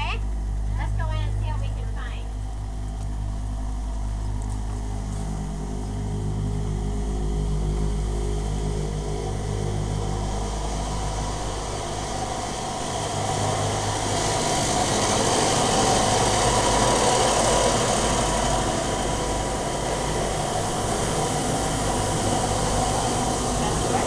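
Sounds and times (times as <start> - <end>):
low hum: 0.0 - 24.0
milking vacuum pumps droning: 0.0 - 24.0.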